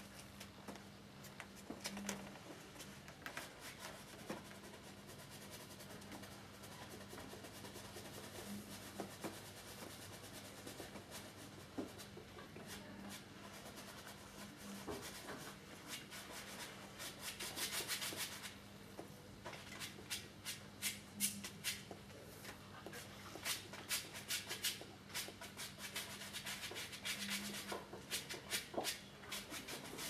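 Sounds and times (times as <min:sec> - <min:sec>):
faint low room hum: 0:00.0 - 0:30.0.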